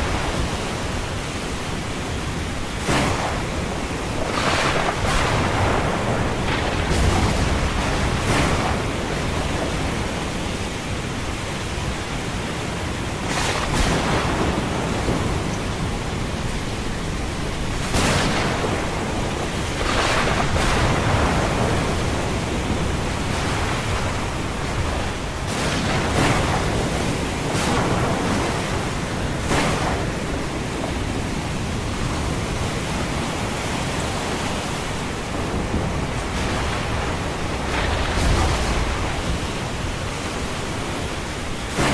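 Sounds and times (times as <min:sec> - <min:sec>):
ocean surf: 0:00.0 - 0:41.9
rainy thunderstorm: 0:00.0 - 0:41.9.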